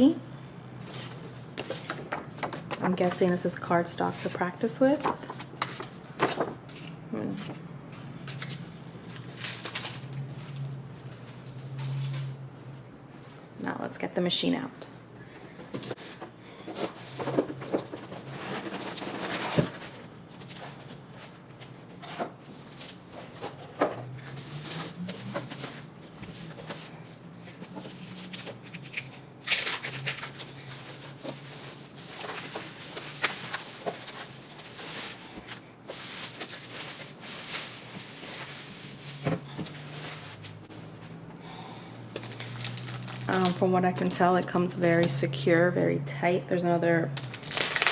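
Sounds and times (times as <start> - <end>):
cardboard and plastic rustling: 0.8 - 12.3, 15.4 - 41.2, 42.2 - 45.1, 47.2 - 47.9.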